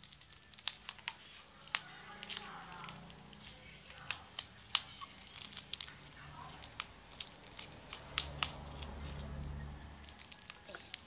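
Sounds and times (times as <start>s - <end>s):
scissors snipping: 0.0s - 9.3s.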